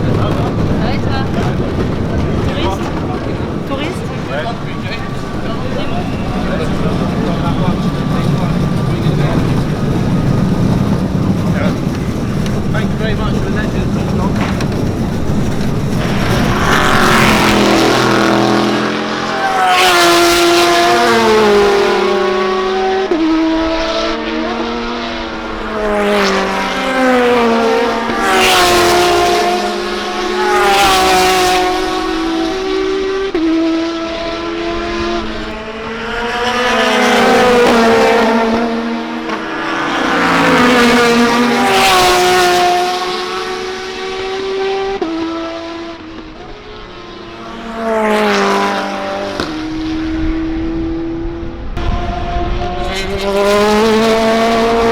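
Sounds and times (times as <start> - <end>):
race cars passing: 0.0 - 54.9.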